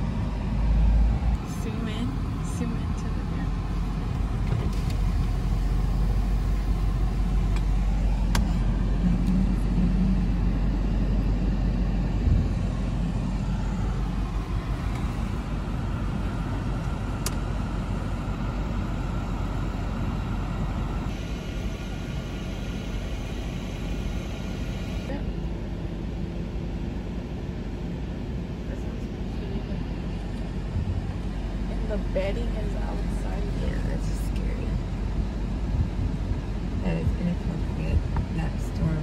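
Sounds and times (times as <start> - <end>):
car engine and tyres rumble: 0.0 - 39.0.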